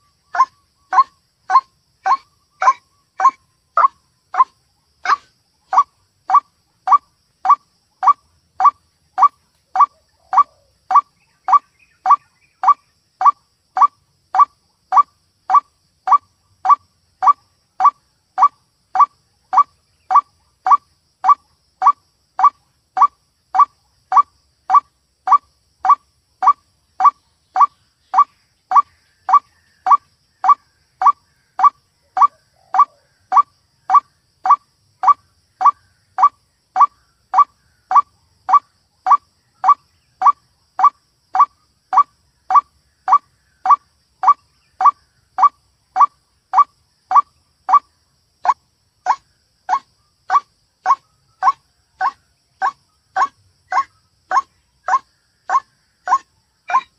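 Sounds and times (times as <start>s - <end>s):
repeated bird call note: 0.3s - 47.9s, 49.1s - 56.9s.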